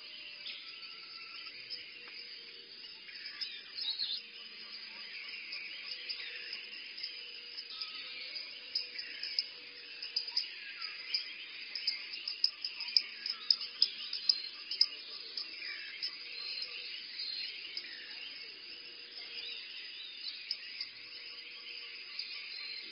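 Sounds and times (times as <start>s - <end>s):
insect chirps: 0.0s - 22.9s.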